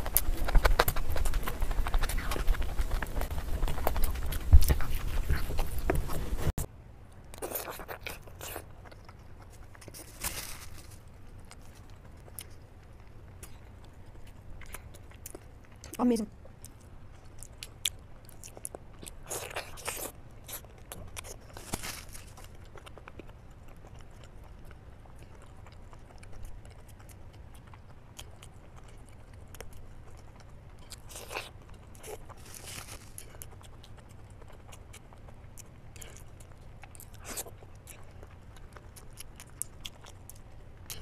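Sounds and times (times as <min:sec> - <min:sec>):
wet chewing mouth sounds: 0:00.0 - 0:06.7, 0:07.3 - 0:10.2, 0:11.0 - 0:41.0
steady low hum: 0:00.0 - 0:41.0.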